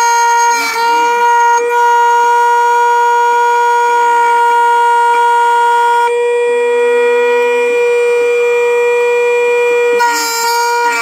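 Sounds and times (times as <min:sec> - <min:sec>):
key cutting machine whine: 0:00.0 - 0:11.0.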